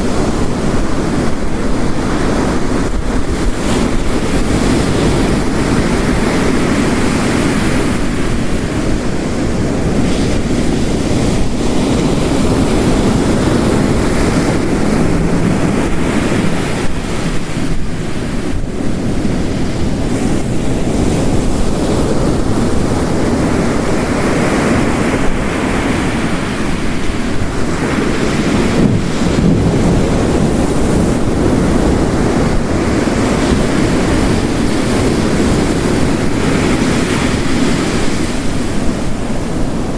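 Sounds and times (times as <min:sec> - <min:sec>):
heavy rain: 0:00.0 - 0:39.9
ocean waves crashing: 0:00.0 - 0:39.9.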